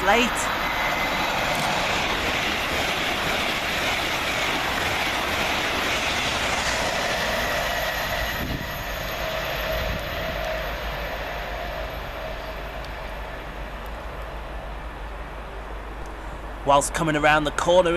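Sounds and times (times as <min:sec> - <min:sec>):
electric train passing: 0:00.0 - 0:17.9.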